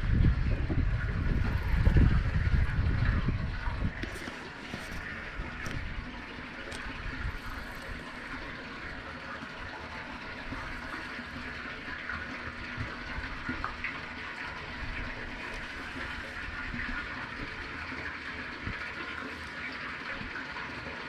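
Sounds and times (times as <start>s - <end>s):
low uneven rumble: 0.0s - 20.6s
water rushing around boat: 0.0s - 21.0s.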